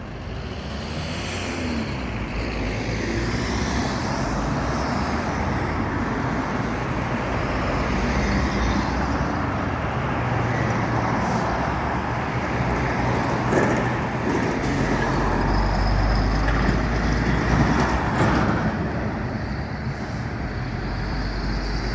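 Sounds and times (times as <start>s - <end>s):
street traffic: 0.0s - 21.9s.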